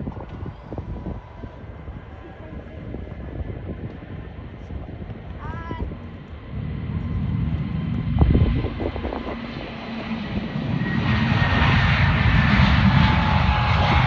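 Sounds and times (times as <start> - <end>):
high engine whine: 0.0 - 14.0
jet engines rumbling: 0.0 - 14.0.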